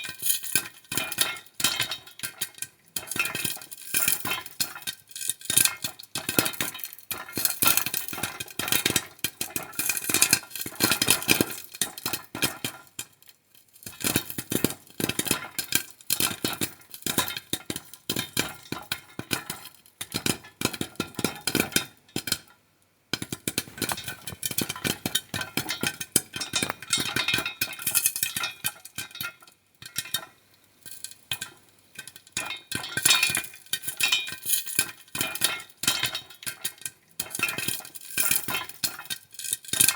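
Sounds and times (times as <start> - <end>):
popcorn popping in a pan: 0.0 - 39.9.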